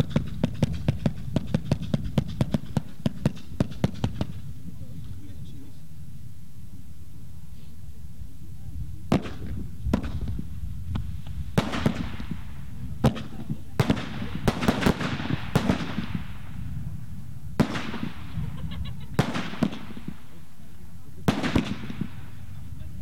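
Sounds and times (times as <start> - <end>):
fireworks bangs: 0.0 - 5.8, 9.0 - 23.0.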